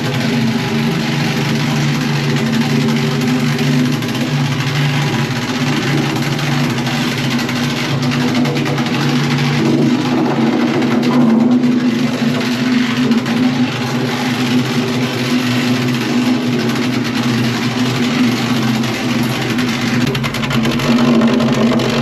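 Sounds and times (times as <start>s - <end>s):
plate compactor engine running: 0.0s - 22.0s.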